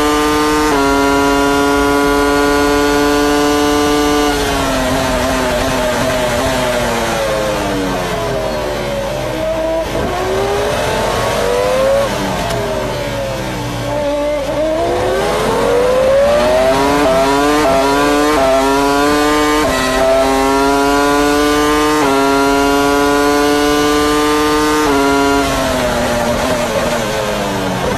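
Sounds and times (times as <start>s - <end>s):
racing car engine accelerating: 0.0s - 27.9s.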